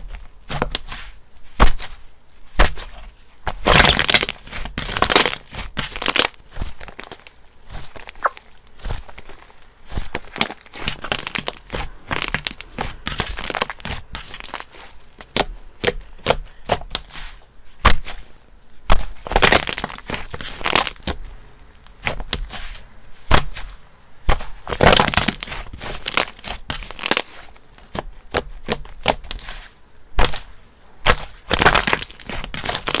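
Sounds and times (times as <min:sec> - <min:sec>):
slime crackling and popping: 0:00.0 - 0:33.0.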